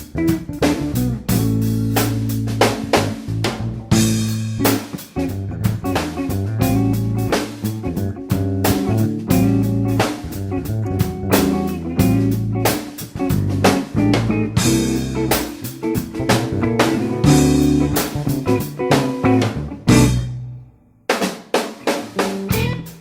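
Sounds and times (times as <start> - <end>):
blues-rock music: 0.0 - 23.0.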